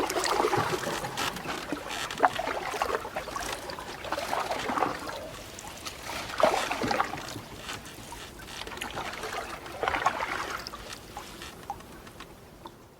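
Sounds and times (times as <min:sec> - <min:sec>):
paddle strokes splashing: 0:00.0 - 0:12.8
water trickling and lapping: 0:00.0 - 0:12.9.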